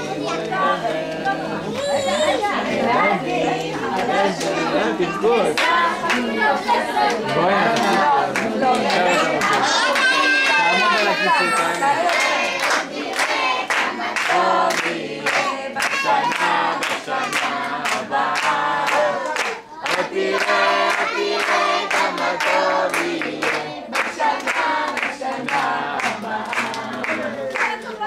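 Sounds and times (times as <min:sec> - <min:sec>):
children singing in chorus: 0:00.0 - 0:28.0.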